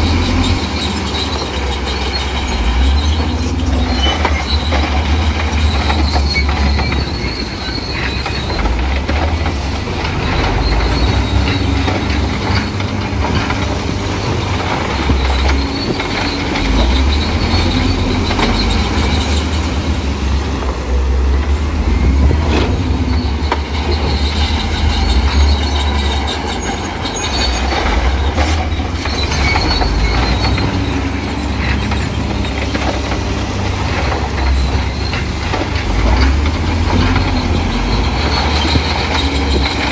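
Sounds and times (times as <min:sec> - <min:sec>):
diesel engine rumble: 0:00.0 - 0:39.9
steel tracks squealing: 0:00.0 - 0:39.9.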